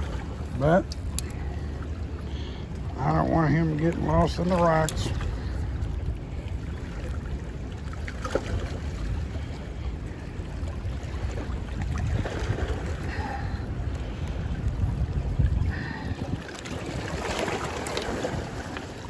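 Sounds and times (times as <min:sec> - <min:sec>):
churning water: 0:00.0 - 0:19.0
wind buffeting microphone: 0:00.0 - 0:19.0.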